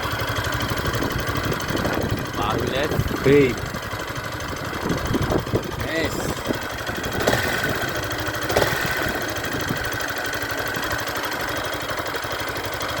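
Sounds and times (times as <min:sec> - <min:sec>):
mechanical engine noise: 0:00.0 - 0:13.0
motorcycle engine idling: 0:00.0 - 0:13.0.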